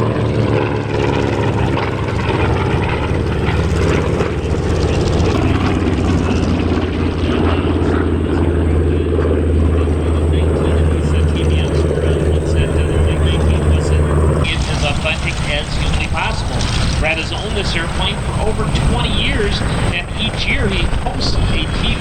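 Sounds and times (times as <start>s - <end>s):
aircraft radial engines droning: 0.0s - 22.0s.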